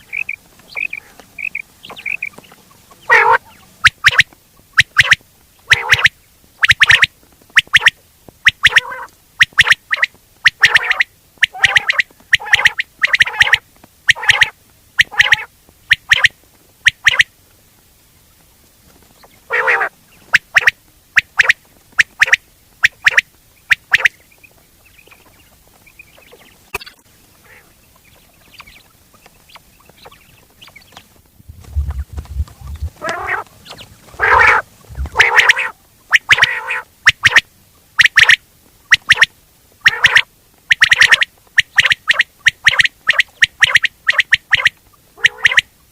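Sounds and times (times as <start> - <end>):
quail calling: 0.0 - 17.3, 19.2 - 45.8.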